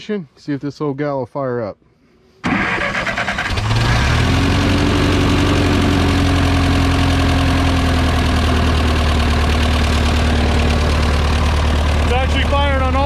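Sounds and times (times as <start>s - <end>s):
tractor engine starting and idling: 2.4s - 13.0s.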